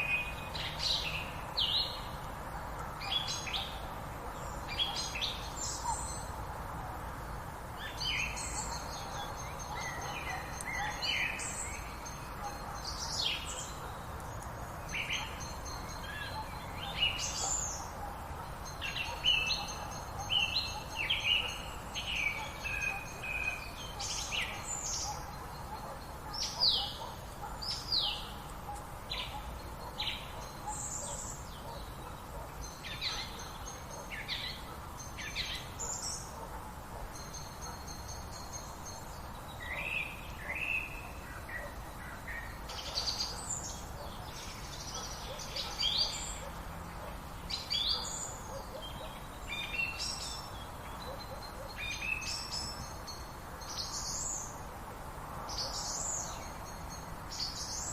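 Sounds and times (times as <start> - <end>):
background hiss: 0.0 - 57.9
birds calling and singing: 0.0 - 57.9.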